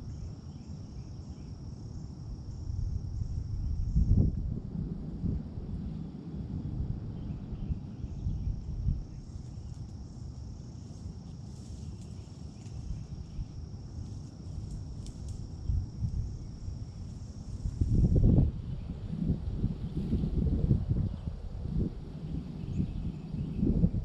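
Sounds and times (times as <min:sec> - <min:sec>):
high-pitched insect trill: 0:00.0 - 0:04.4, 0:05.9 - 0:24.0
wind buffeting microphone: 0:02.3 - 0:24.0.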